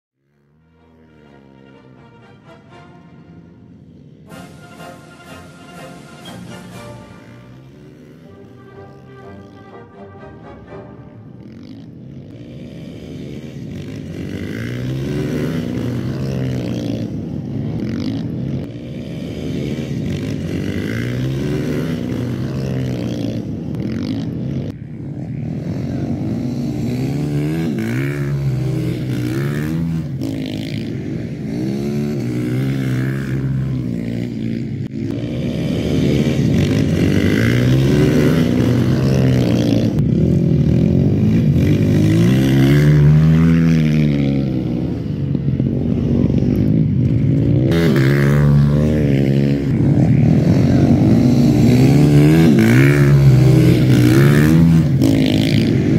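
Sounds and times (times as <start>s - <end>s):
motorcycles racing revving: 0.2s - 55.9s.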